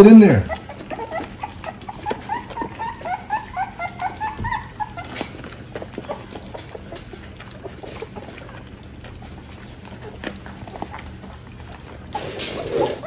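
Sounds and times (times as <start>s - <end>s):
puppies lapping and slurping: 0.0s - 13.0s.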